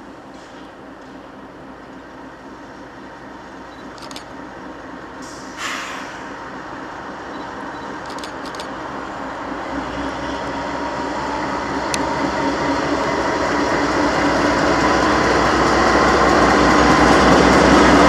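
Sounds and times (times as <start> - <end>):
diesel locomotive engine rumble: 0.0 - 18.0.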